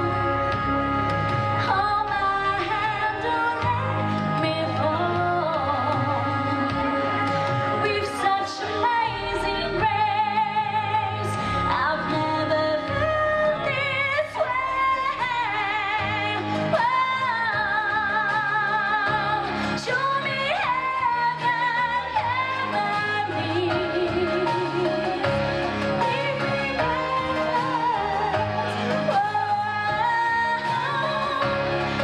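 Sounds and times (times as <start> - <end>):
instrumental accompaniment: 0.0 - 32.0
woman singing with vibrato: 0.0 - 32.0.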